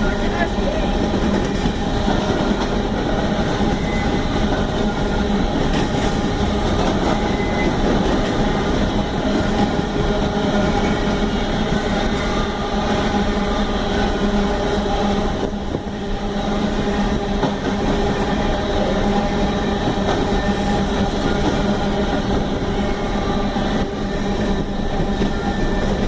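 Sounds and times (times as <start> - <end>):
train wheels rumbling on rail: 0.0 - 26.0
wheels clickety-clack: 0.0 - 26.0.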